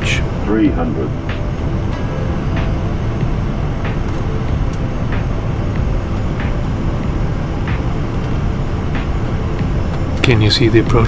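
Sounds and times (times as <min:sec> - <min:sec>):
cockpit airflow and engine rumble: 0:00.0 - 0:11.0.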